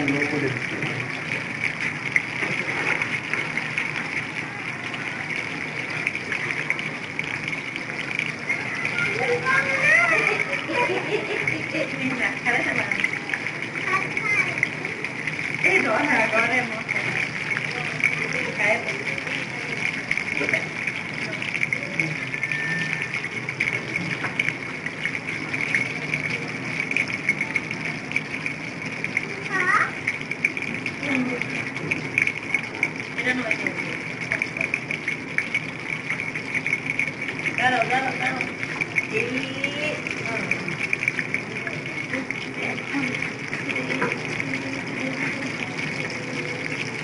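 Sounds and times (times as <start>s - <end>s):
deep-frying sizzle and crackling: 0.0s - 47.0s.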